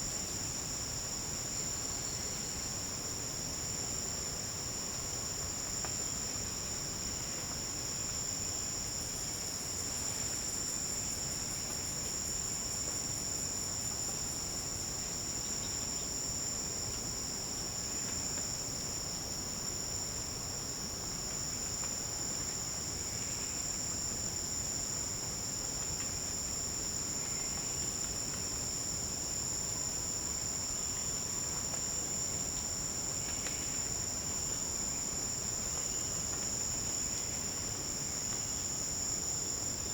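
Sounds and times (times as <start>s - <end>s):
insects trilling: 7.2s - 39.9s.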